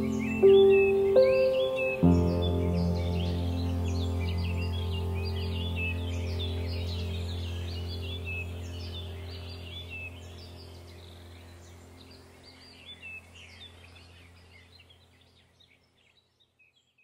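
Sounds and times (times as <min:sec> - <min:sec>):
steady low hum: 0:00.0 - 0:15.2
small birds chirping: 0:00.0 - 0:17.0.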